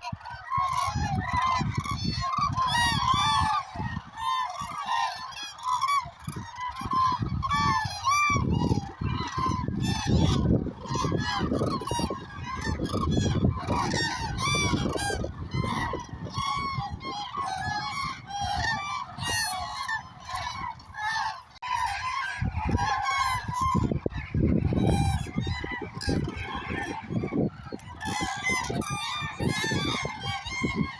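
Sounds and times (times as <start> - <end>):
cranes trumpeting calls: 0.0 - 23.8, 24.9 - 30.9.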